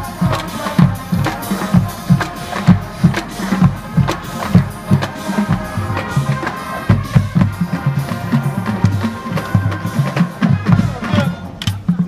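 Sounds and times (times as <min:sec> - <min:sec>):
marching drums pounding: 0:00.0 - 0:12.0
wind instruments holding chords: 0:00.0 - 0:12.0.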